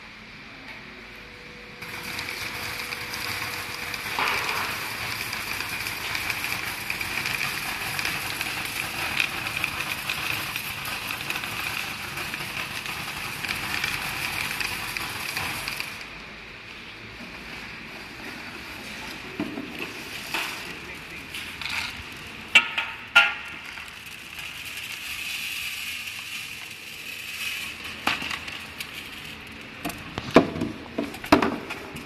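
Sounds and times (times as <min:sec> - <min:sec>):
grains streaming through machine: 0:01.1 - 0:32.0.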